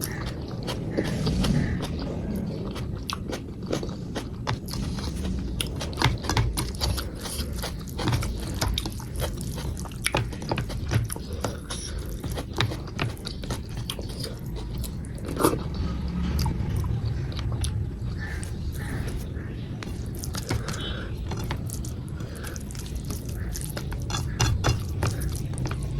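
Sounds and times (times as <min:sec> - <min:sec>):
chewing and wet mouth smacks: 0:00.0 - 0:25.9.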